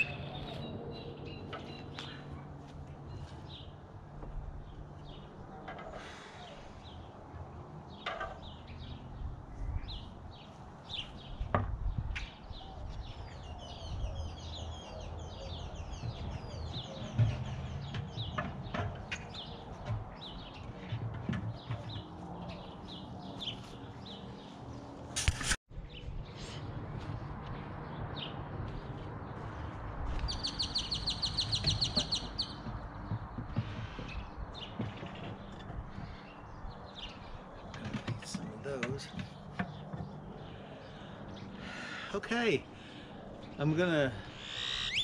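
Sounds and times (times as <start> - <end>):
small birds chirping: 0.0 - 3.8, 4.6 - 24.9, 25.8 - 45.0.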